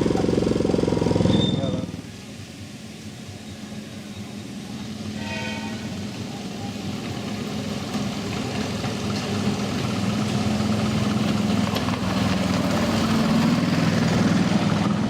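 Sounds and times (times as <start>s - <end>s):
miniature railway locomotive running: 0.0s - 15.0s.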